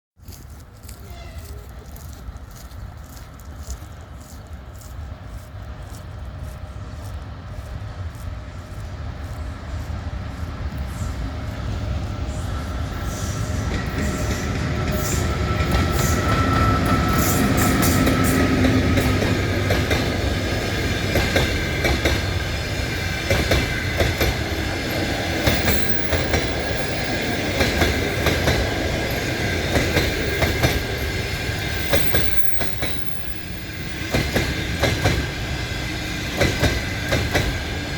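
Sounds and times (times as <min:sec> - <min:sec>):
train wheels clicking over rail joints: 0:00.2 - 0:37.9
electric locomotive hum: 0:00.7 - 0:37.9.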